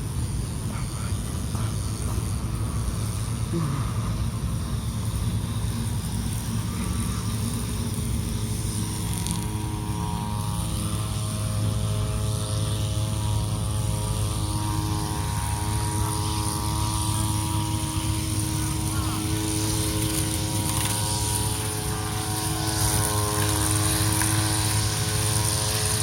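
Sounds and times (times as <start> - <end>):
droning multi-pitch tone: 0.0 - 26.0.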